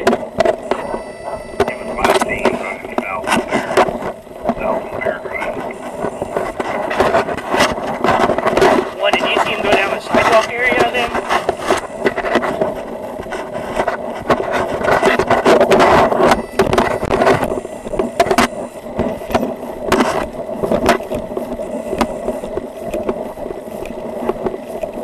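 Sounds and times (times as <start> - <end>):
camera rustling against clothing: 0.0 - 25.0
steady hum: 0.0 - 25.0.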